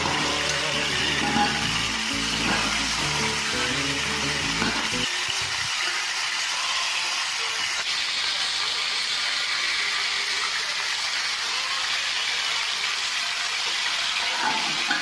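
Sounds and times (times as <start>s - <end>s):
steak and onions sizzling in a pan: 0.0s - 15.0s.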